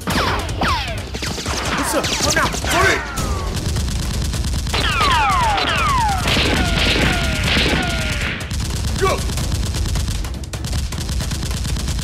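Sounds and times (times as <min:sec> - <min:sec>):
rapid automatic gunfire effect: 0:00.0 - 0:12.0.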